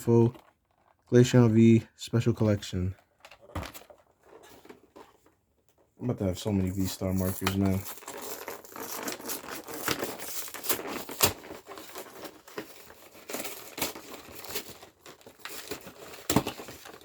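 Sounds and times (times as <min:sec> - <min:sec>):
packaging crinkling and rustling: 0:00.0 - 0:01.4, 0:02.9 - 0:17.0.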